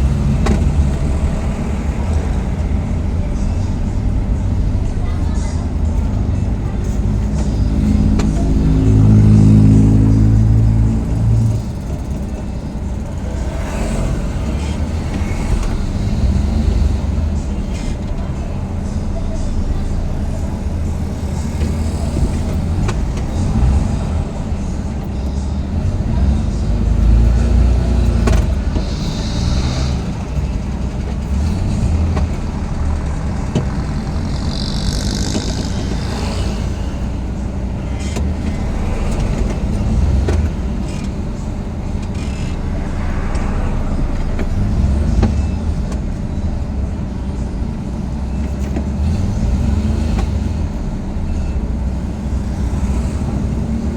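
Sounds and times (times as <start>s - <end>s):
motor vehicle rumbling: 0.0s - 53.9s.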